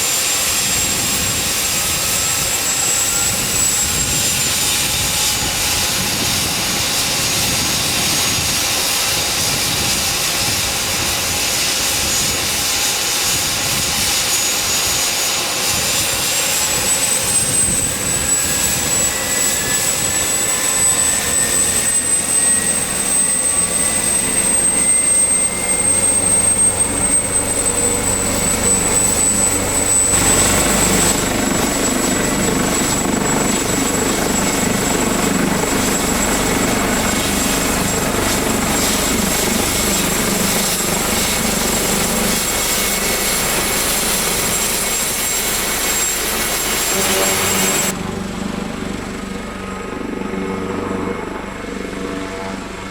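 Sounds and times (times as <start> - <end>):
turbine engines whining: 0.0 - 52.9.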